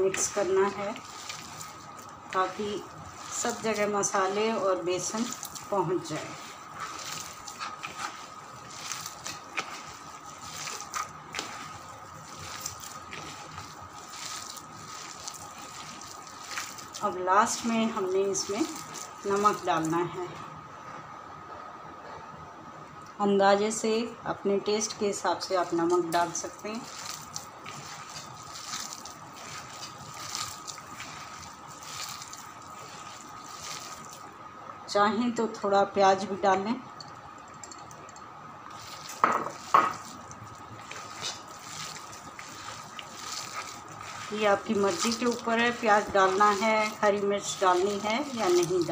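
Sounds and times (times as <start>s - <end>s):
hand squishing wet dough: 0.0s - 20.4s, 24.8s - 34.5s, 38.7s - 48.9s.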